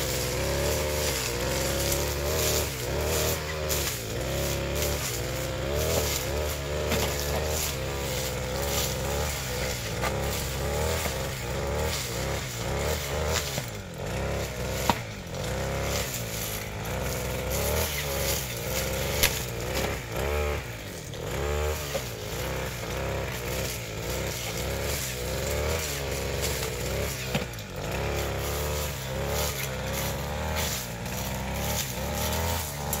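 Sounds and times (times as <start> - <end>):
brush cutter engine running: 0.0 - 33.0.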